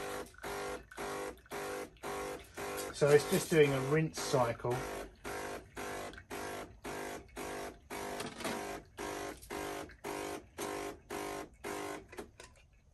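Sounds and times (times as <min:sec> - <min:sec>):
coffee machine pump buzzing: 0:00.0 - 0:12.4.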